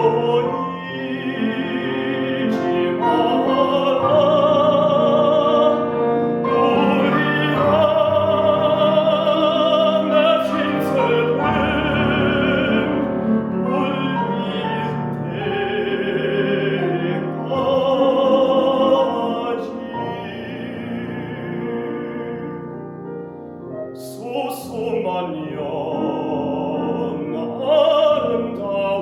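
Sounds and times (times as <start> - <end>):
baritone singing classical notes: 0.0 - 29.0
piano accompaniment: 0.0 - 29.0.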